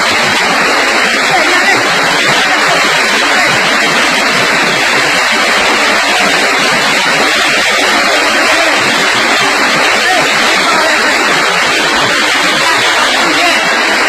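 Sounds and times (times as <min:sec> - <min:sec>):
hail and heavy rain clattering: 0:00.0 - 0:14.0.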